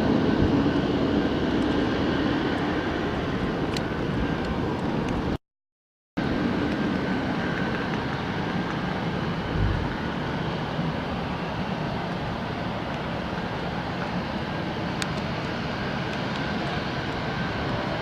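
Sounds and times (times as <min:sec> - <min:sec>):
jet engines running: 0:00.0 - 0:05.4, 0:06.2 - 0:18.0.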